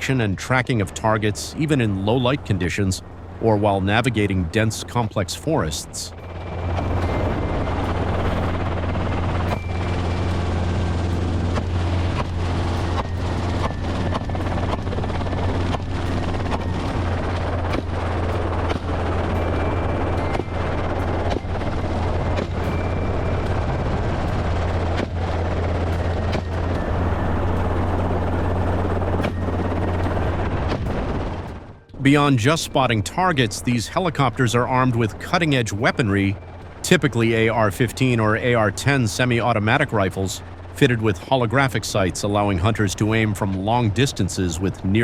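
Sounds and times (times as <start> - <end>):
helicopter rotor and engine drone: 0.0 - 45.0.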